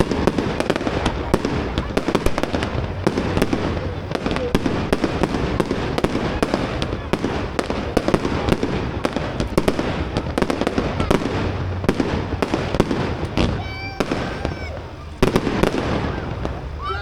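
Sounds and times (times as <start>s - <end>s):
fireworks barrage of bangs: 0.0s - 17.0s.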